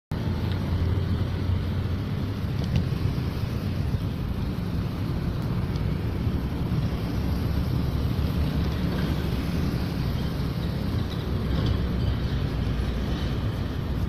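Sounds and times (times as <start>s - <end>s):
distant road traffic: 0.1s - 14.0s.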